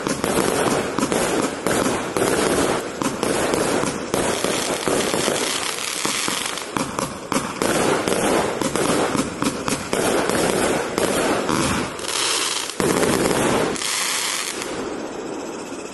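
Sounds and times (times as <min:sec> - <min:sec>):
firework shots firing: 0:00.0 - 0:15.2
crackling firework stars: 0:00.0 - 0:15.9.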